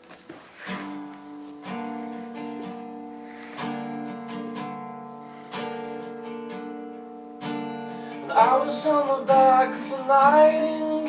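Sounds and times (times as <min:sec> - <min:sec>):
acoustic guitar strumming chords: 0:00.6 - 0:11.0.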